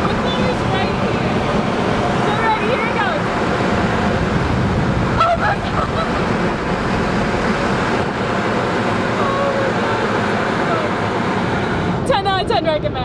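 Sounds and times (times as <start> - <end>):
air-dryer blowers blasting: 0.0 - 12.2
wind buffeting microphone: 0.0 - 13.0.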